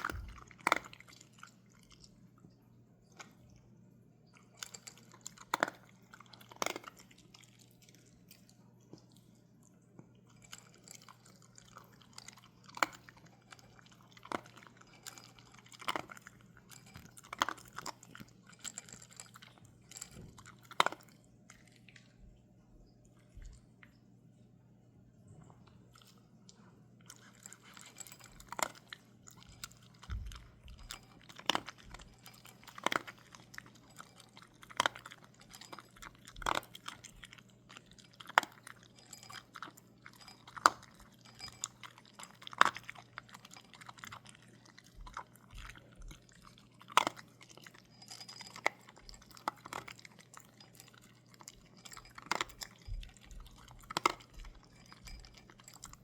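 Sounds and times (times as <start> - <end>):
crunchy food being chewed: 0.0 - 24.0, 25.3 - 56.0
faint steady hum: 0.0 - 56.0.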